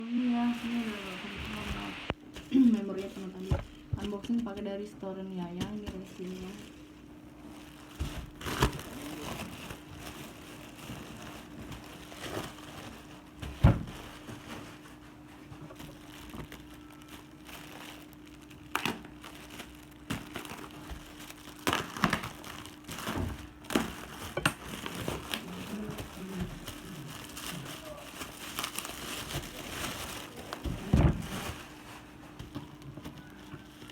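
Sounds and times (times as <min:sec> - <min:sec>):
faint steady hum: 0:00.0 - 0:33.9
plastic packaging crinkling: 0:00.2 - 0:33.9.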